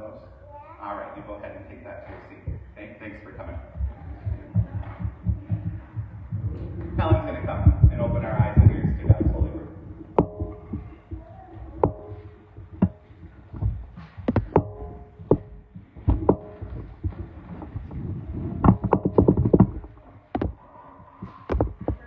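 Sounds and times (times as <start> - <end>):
knocks and thumps: 2.0 - 2.8, 3.4 - 22.0
low rumble: 2.5 - 22.0.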